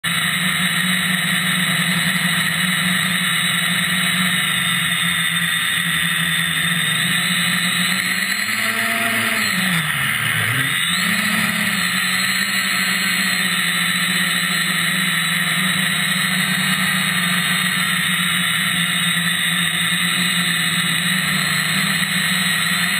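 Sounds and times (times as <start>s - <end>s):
quadcopter motors whining: 0.0s - 22.9s.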